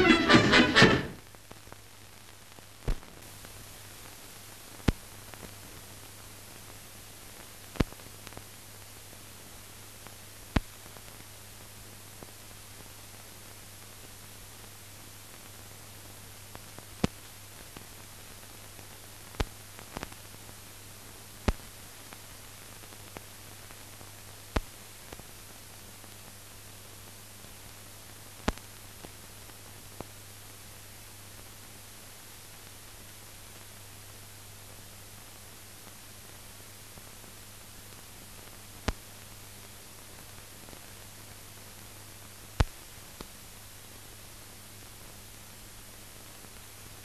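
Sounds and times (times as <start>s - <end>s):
film hiss: 0.0s - 47.0s.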